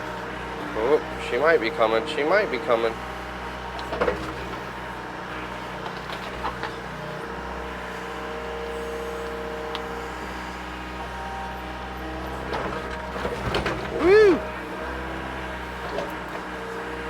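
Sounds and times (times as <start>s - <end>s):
diesel engine straining under load: 0.0s - 17.0s.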